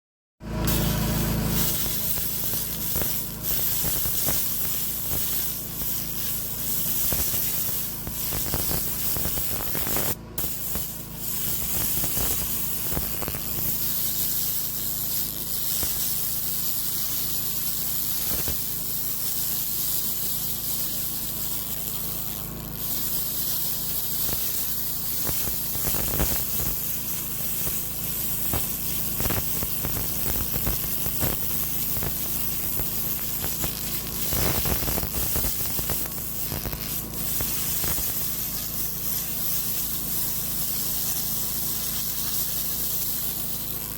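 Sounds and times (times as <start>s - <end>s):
low hum of laser unit: 0.6s - 43.7s
laser hissing and crackling on metal: 0.6s - 43.9s.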